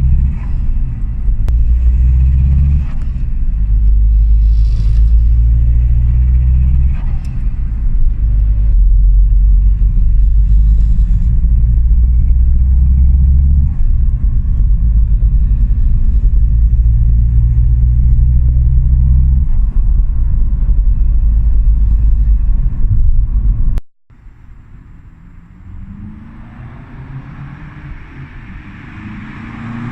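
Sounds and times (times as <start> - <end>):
diesel car exhaust droning: 0.0 - 29.9.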